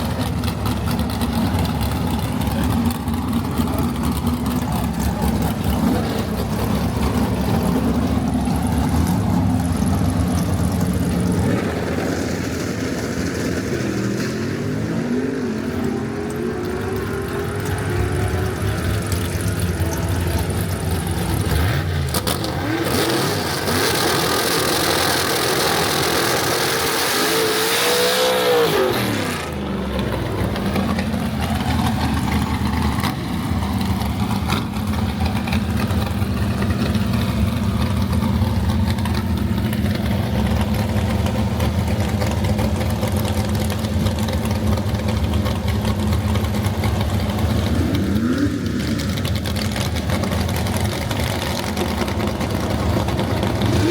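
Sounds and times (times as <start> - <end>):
low engine rumble: 0.0 - 22.5, 29.4 - 53.9
racing car engines revving: 0.0 - 53.9.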